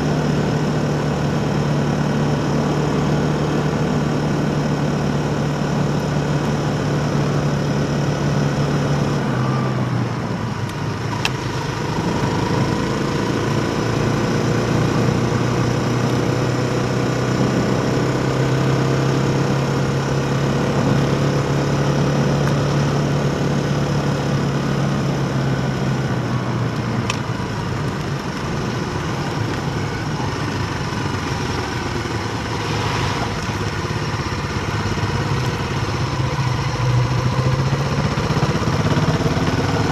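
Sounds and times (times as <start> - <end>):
steady mechanical drone: 0.0 - 39.9
wind: 0.0 - 39.9.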